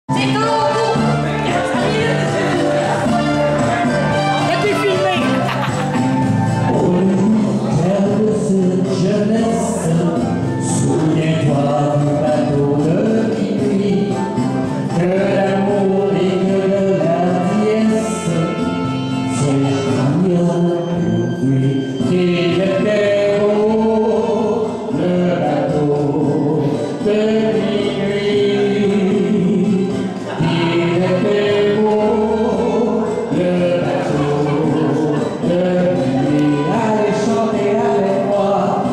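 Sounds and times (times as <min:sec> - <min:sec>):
karaoke backing track: 0:00.0 - 0:38.9
man singing into microphone: 0:00.1 - 0:38.9.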